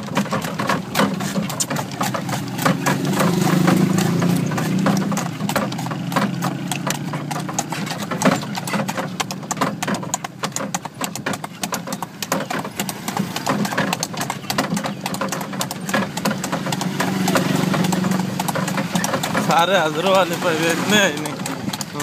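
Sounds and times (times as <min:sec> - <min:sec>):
horse hooves clip-clopping on pavement: 0:00.0 - 0:22.0.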